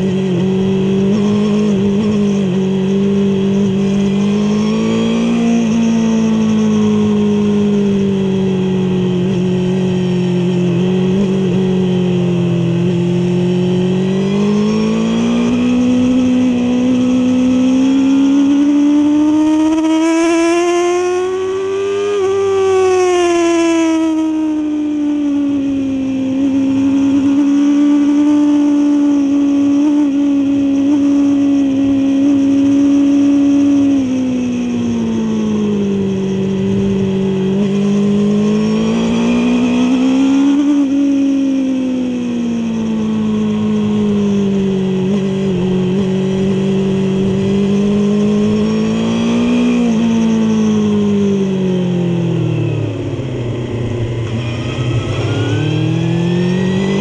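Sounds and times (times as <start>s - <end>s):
motorcycle engine at high revs: 0.0s - 57.0s
rush of wind: 0.0s - 57.0s.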